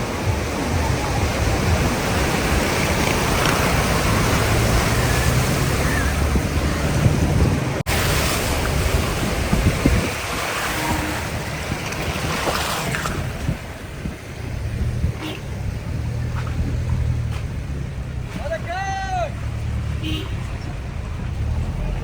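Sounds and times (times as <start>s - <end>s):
wind on microphone: 0.0s - 18.4s
rushing river water: 0.0s - 22.0s.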